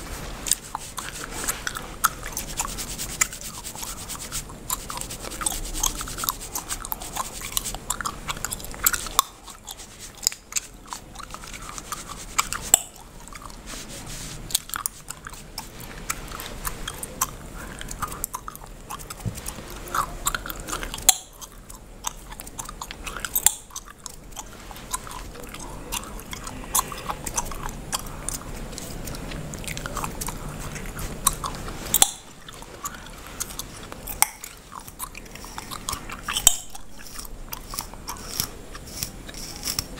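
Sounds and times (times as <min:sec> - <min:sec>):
bubblegum chewing and snapping: 0:00.0 - 0:13.9, 0:14.5 - 0:39.9
fingers scratching scalp: 0:00.0 - 0:39.9.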